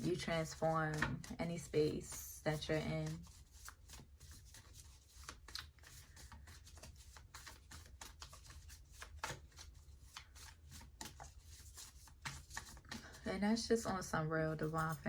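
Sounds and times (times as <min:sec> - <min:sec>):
cards being shuffled: 0:00.0 - 0:14.0.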